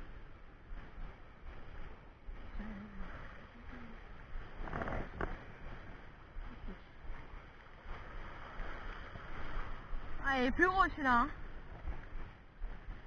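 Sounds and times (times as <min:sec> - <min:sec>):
surf against rocks: 0:00.0 - 0:13.0
wind buffeting microphone: 0:00.0 - 0:13.0.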